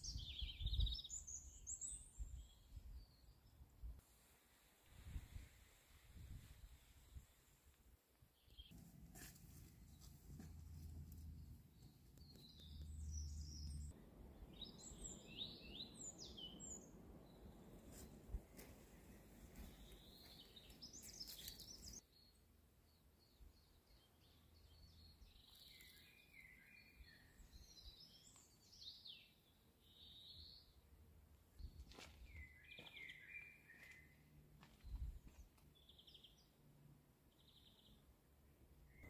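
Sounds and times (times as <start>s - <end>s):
songbirds chirping and trilling: 0.0s - 3.7s, 9.8s - 39.0s.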